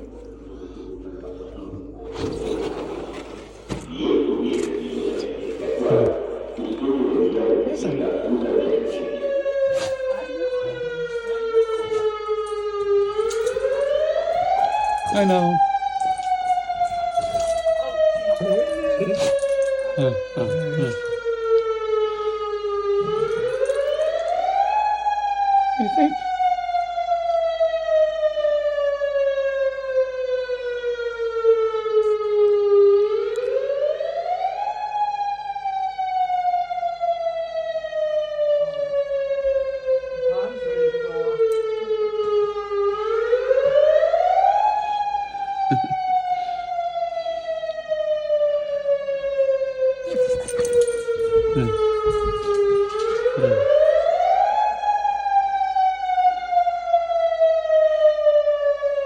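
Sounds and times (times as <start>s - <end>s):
wailing warning siren: 0.0s - 3.1s, 3.8s - 59.0s.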